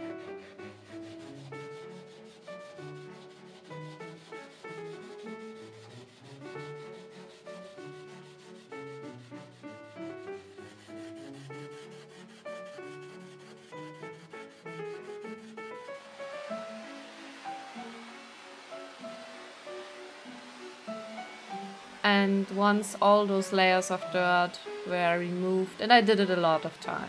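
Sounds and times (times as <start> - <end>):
background music: 0.0 - 27.0
steel wool scrubbing wood: 0.0 - 27.0.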